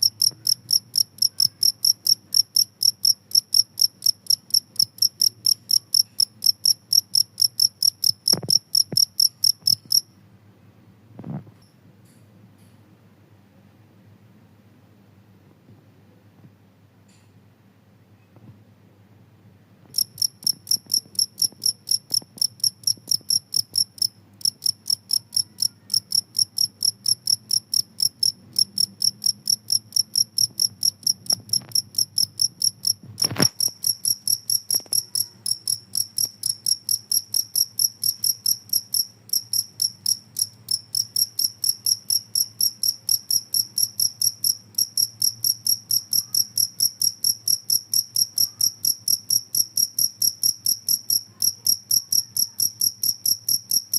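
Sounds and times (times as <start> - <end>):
cricket chirping: 0.0 - 10.2, 19.9 - 53.9.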